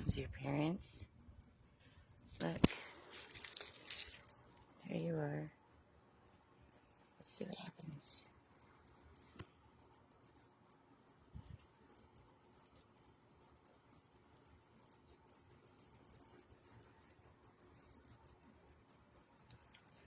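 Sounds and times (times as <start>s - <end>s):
baby bird cheeping: 0.0s - 20.0s.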